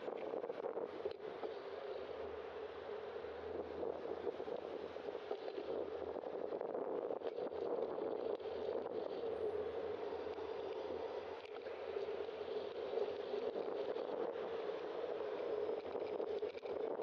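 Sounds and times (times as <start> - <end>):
muffled wind and road noise: 0.0 - 17.0.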